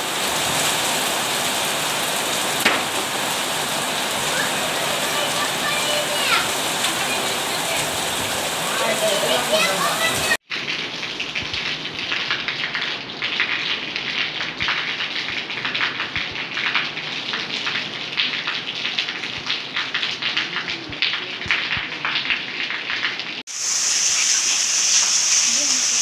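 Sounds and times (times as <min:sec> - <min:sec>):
heavy rain on standing water: 0:00.0 - 0:26.0.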